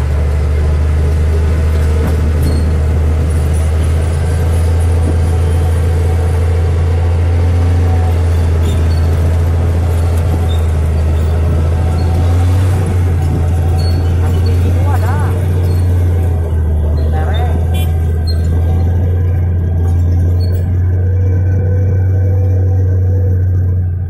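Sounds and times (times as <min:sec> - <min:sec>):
diesel engine low drone: 0:00.0 - 0:24.0.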